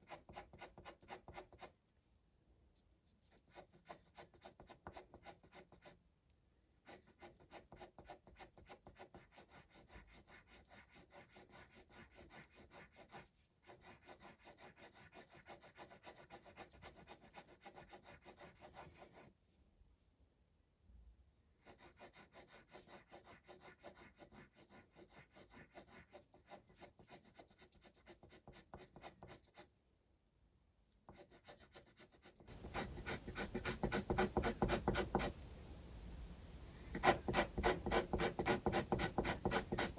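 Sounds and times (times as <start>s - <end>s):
pencil shading on paper: 0.0s - 1.7s, 3.2s - 6.0s, 6.8s - 19.3s, 21.6s - 29.7s, 31.1s - 35.3s, 36.9s - 39.9s.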